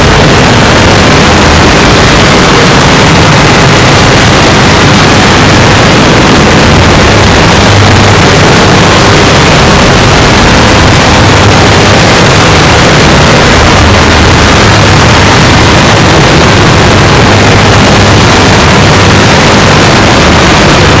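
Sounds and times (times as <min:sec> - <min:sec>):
harsh distorted noise: 0:00.0 - 0:21.0.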